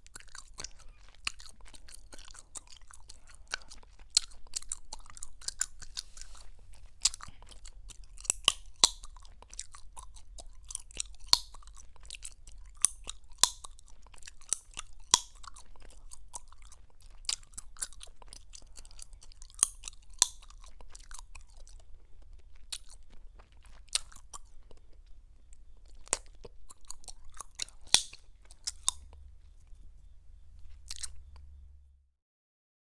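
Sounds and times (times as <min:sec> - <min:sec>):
chewing gum wet smacking: 0:00.0 - 0:29.2, 0:30.6 - 0:31.6
gum popping and snapping: 0:00.0 - 0:29.2, 0:30.7 - 0:31.5
faint low hum: 0:00.0 - 0:32.2.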